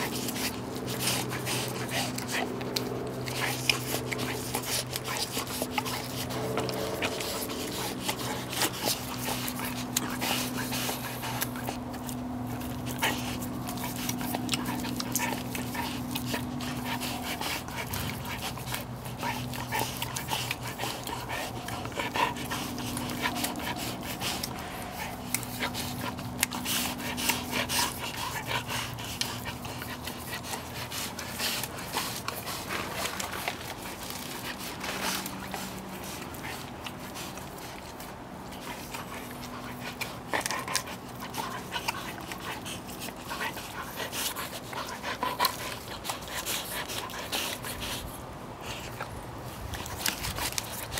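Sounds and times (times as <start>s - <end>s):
dog licking wetly: 0.0s - 50.9s
dog panting: 0.0s - 50.9s
steady low hum: 0.0s - 50.9s.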